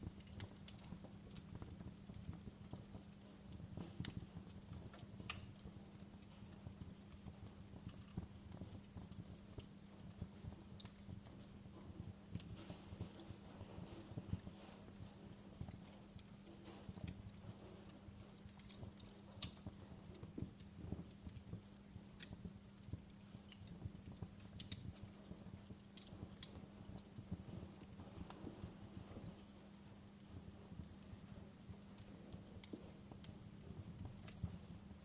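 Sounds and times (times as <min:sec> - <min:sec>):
steady low hum: 0:00.0 - 0:35.0
wood fire crackling: 0:00.0 - 0:35.0.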